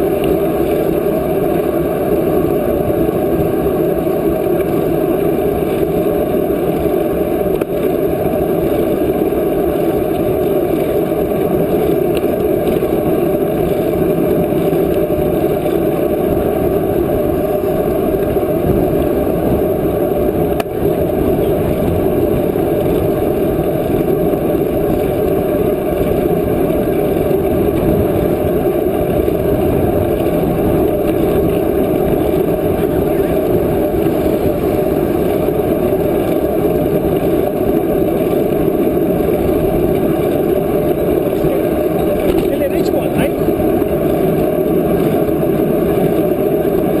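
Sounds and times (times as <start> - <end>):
wind and tyre noise: 0.0 - 47.0.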